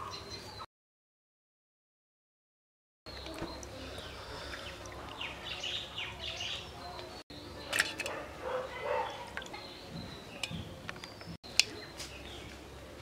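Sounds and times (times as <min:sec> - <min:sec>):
birds chirping: 0:00.0 - 0:00.7, 0:03.1 - 0:13.0.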